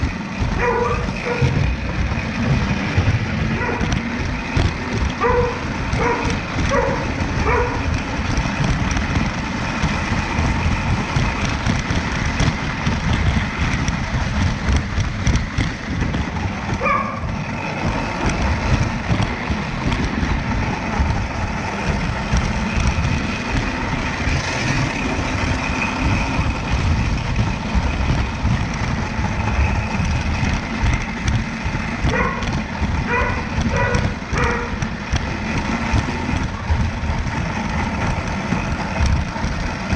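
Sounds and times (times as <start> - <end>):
model train rumbling on track: 0.0 - 39.9.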